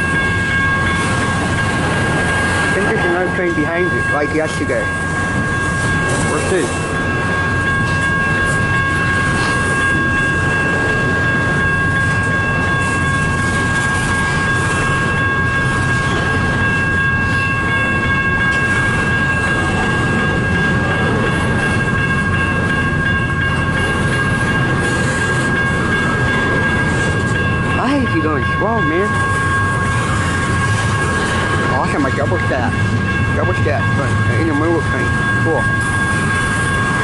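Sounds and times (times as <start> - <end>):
high-pitched held tones: 0.0 - 37.0
train wheels rumbling on rail: 0.0 - 37.0.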